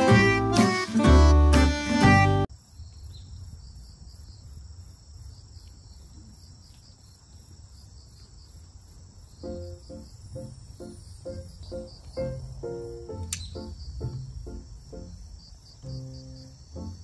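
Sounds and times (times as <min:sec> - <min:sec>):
crickets chirping: 0:02.5 - 0:17.0.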